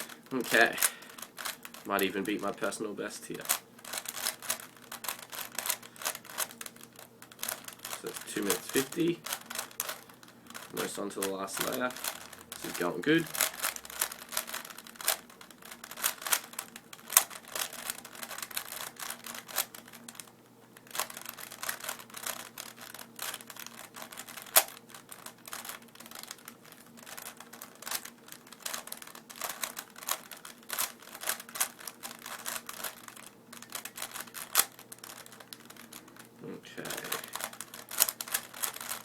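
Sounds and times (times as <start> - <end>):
plastic puzzle cube clicking: 3.4 - 10.9, 11.6 - 36.3, 37.0 - 39.0.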